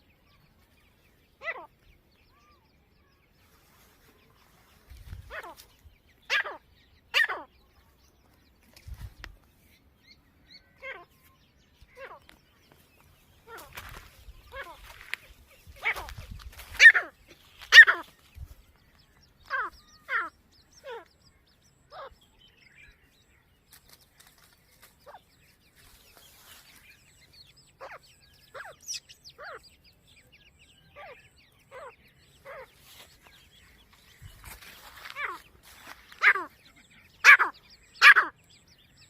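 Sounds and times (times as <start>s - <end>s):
birds calling with falling pitch: 0.0s - 39.0s.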